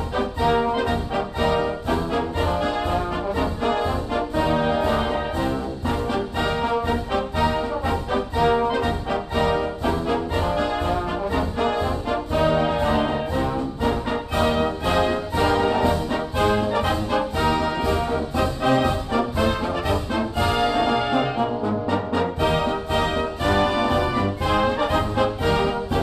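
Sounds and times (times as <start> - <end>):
orchestral music with brass: 0.0 - 26.0.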